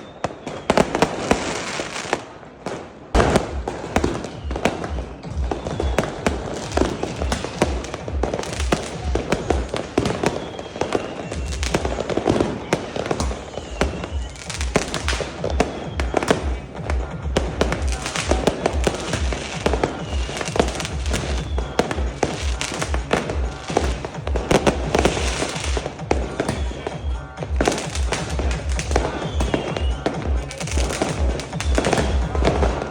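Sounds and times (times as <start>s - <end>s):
fireworks banging and crackling: 0.0s - 32.9s
music with low beat: 3.2s - 32.9s.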